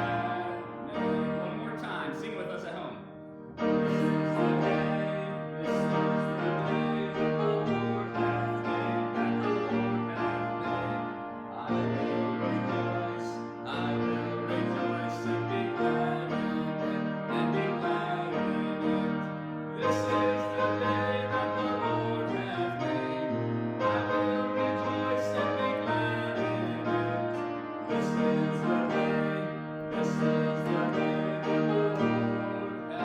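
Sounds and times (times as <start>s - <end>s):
piano playing slow chords: 0.0s - 33.0s.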